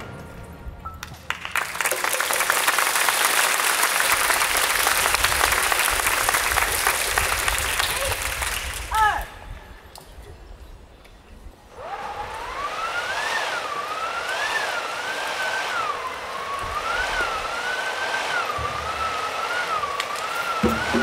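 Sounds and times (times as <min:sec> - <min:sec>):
howling wind whistling: 0:04.1 - 0:21.0.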